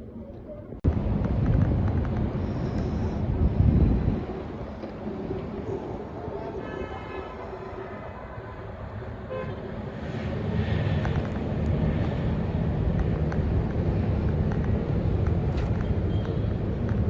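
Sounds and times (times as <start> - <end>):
motor vehicle engine and tyres: 0.0 - 17.0.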